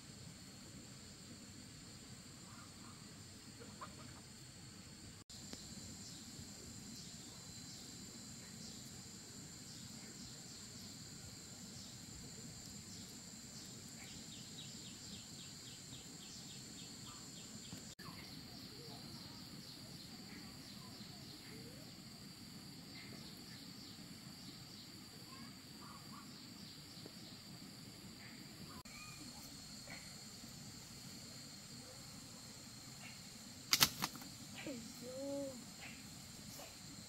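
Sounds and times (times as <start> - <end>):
quick insect chirps: 0.1 - 37.0
high-pitched insect drone: 1.5 - 37.0.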